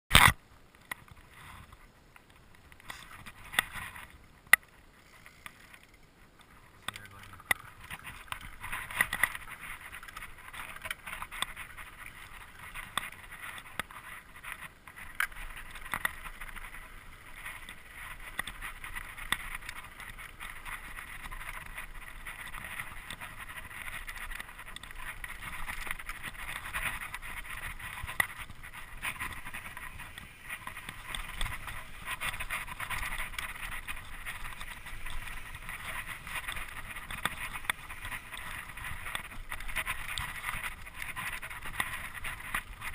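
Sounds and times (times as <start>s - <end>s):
bike clicks and rattles: 0.1s - 42.9s
tyre and trail noise: 0.1s - 42.9s.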